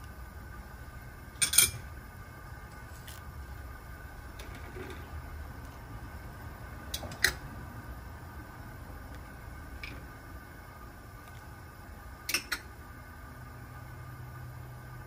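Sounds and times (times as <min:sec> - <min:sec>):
water at a rolling boil: 0:00.0 - 0:15.0.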